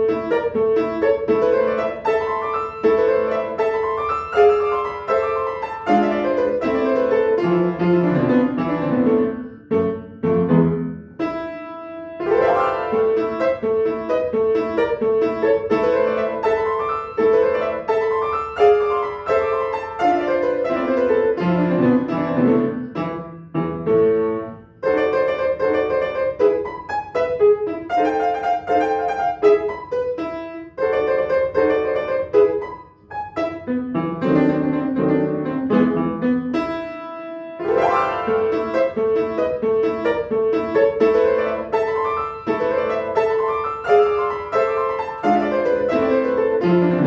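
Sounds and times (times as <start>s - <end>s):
solo piano: 0.0s - 47.0s.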